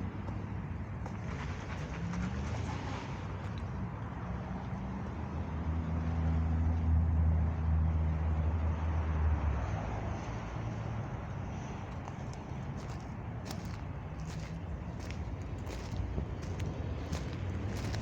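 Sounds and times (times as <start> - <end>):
traffic noise: 0.0 - 18.0
vehicle passing by: 1.0 - 3.5, 4.1 - 18.0.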